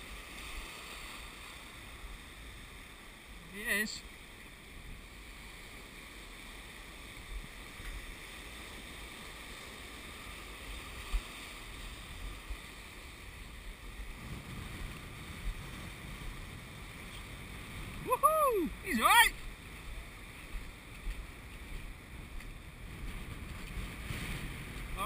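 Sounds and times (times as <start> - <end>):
surf washing over sand: 0.0 - 25.0
wind rumble on microphone: 4.3 - 25.0.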